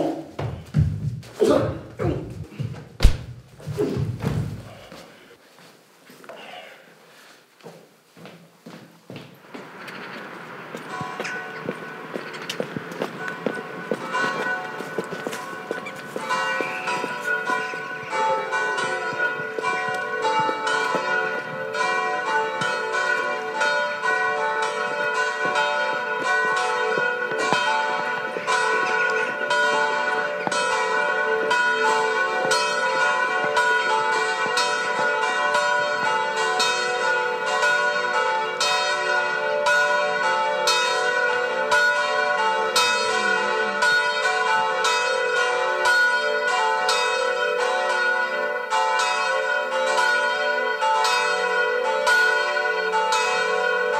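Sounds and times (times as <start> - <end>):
church bells pealing: 9.4 - 53.9.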